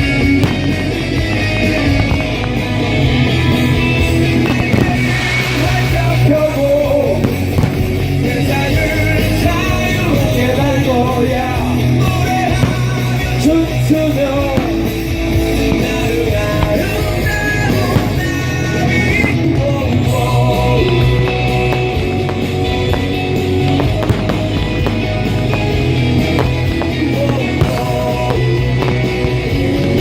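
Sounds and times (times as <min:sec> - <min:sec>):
rock song: 0:00.0 - 0:30.0.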